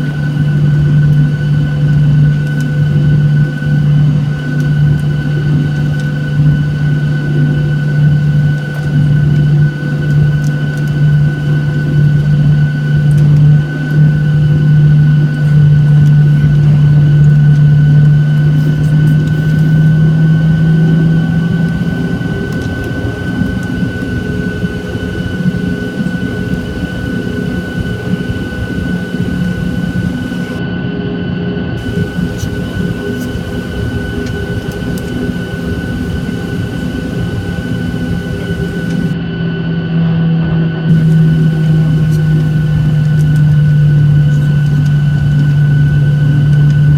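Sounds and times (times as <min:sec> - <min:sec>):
airplane cabin engine drone: 0:00.0 - 0:46.9.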